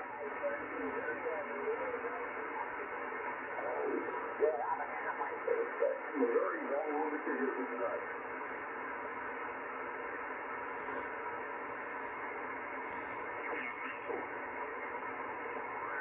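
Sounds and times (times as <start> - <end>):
radio receiver static hiss: 0.0 - 16.0.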